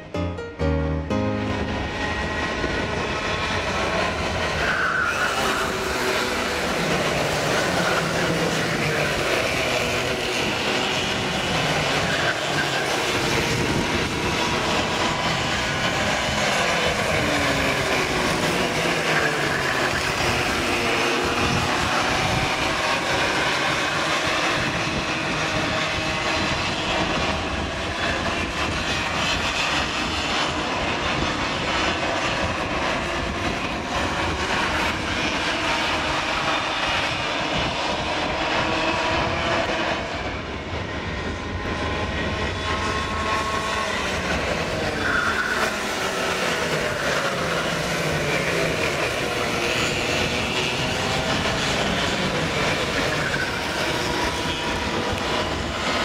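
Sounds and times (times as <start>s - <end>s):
kart engines racing past: 1.8s - 56.0s.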